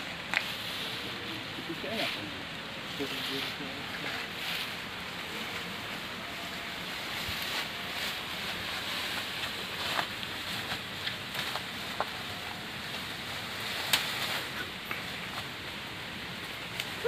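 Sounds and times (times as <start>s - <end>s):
grass and brush rustling: 0.0s - 17.0s.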